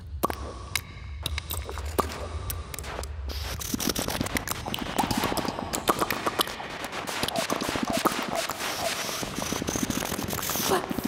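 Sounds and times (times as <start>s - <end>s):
rapid crackling clicks: 1.3s - 11.0s.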